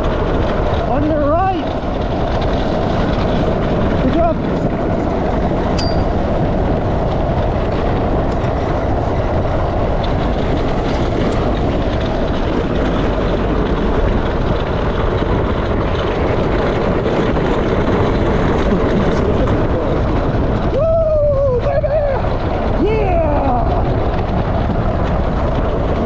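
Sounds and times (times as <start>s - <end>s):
kart rolling over gravel: 0.0s - 26.0s.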